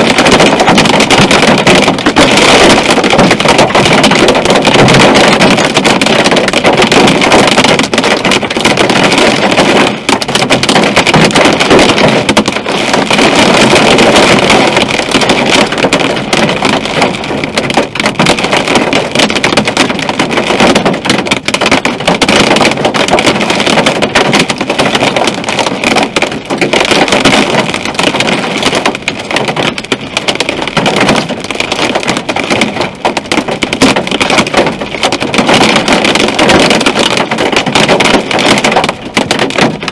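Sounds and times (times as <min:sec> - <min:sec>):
hail and rain pelting a car: 0:00.0 - 0:39.9.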